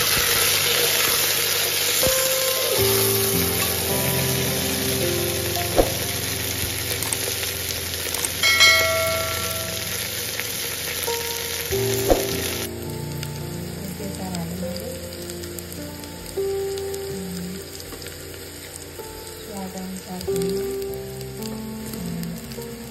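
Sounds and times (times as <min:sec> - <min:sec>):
meat sizzling in hot oil: 0:00.0 - 0:22.9.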